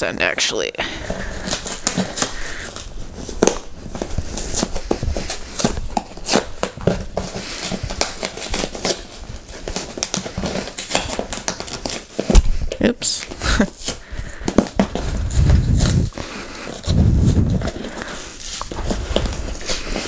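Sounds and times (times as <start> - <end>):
cardboard box tearing: 1.2 - 12.6, 13.2 - 20.0
sharp cardboard crack: 1.4 - 12.6, 13.7 - 20.0.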